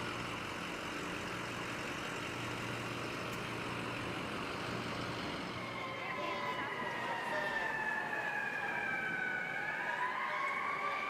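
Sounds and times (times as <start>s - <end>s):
fire truck engine running: 0.0s - 11.0s
road noise: 0.0s - 11.0s.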